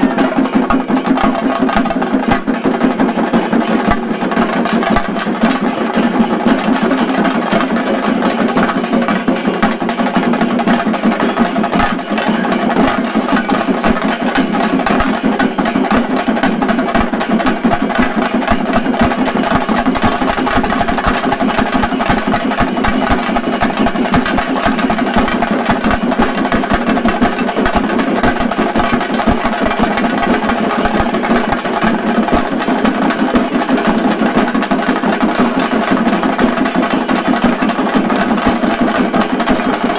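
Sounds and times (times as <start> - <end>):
drum ensemble fast stick strokes: 0.0 - 39.9.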